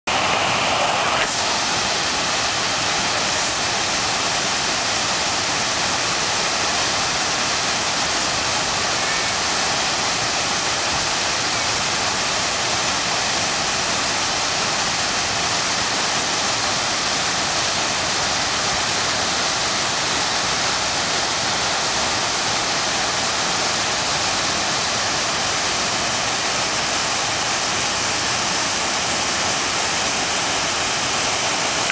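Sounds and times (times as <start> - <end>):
waterfall roaring: 0.1 - 31.9.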